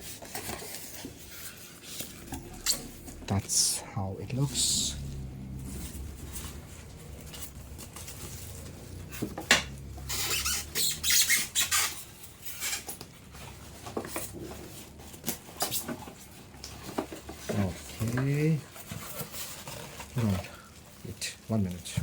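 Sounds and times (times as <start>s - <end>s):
packaging rustling and scraping: 0.0s - 22.0s.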